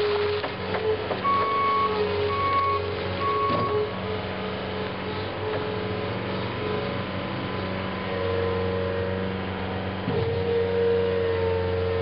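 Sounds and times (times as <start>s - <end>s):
diesel engine under load: 0.0s - 12.0s
hydraulic whine: 0.0s - 12.0s.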